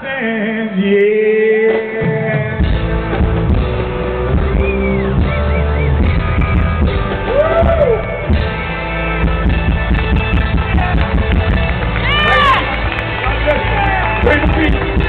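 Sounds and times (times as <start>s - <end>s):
live rock band playing: 1.8s - 15.0s.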